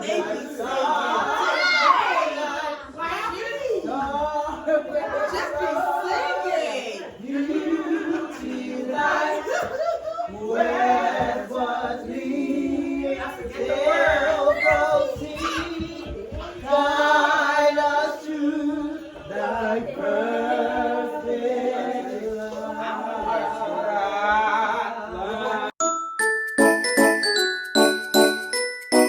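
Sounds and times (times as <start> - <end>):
voices singing together: 0.0 - 25.8.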